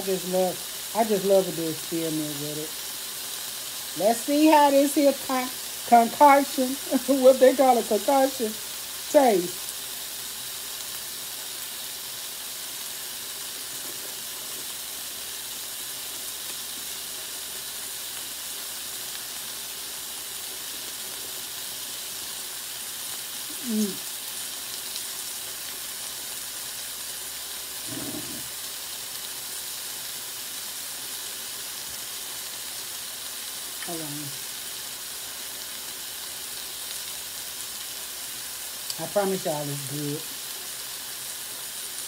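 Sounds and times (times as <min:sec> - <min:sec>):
food sizzling: 0:00.0 - 0:42.0.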